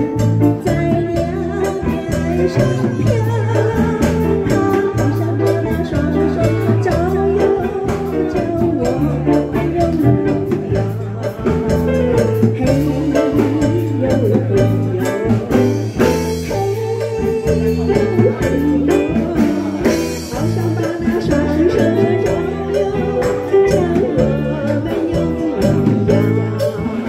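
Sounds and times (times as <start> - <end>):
electric guitar: 0.0 - 27.0
keyboard: 0.0 - 27.0
steady beat: 0.0 - 27.0
woman singing into microphone: 0.0 - 27.0.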